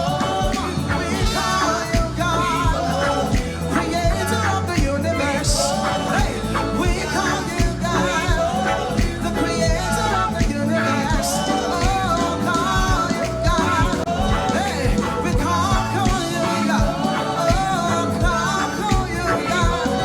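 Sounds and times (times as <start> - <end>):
bass: 0.0 - 20.0
steady drum beat: 0.0 - 20.0
voices singing over a band: 0.0 - 20.0.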